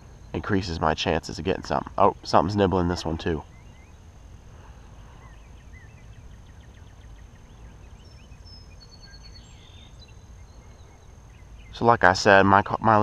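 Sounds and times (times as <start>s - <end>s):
low steady rumble: 0.0s - 13.0s
small birds chirping: 0.0s - 13.0s
thin steady high tone: 0.0s - 13.0s.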